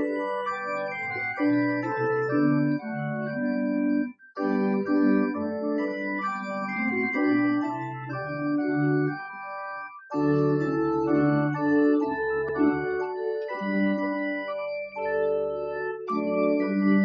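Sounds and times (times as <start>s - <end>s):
organ chords: 0.0s - 17.0s.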